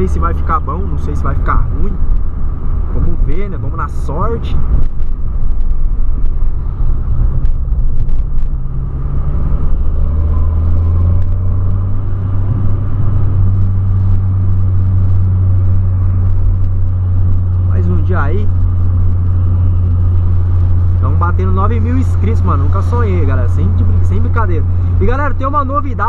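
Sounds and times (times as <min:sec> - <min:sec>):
car engine drone: 0:00.0 - 0:26.0.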